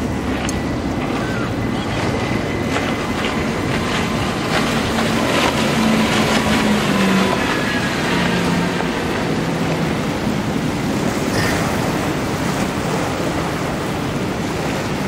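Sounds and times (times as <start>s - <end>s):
hull slapping water: 0.0s - 15.0s
outboard motors droning: 0.0s - 15.0s.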